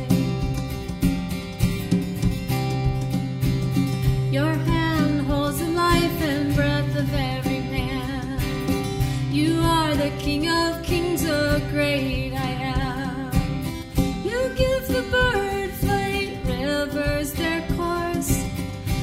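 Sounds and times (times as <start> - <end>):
woman singing: 0.0 - 0.7, 4.2 - 19.0
acoustic guitar: 0.0 - 19.0
drums: 0.0 - 19.0.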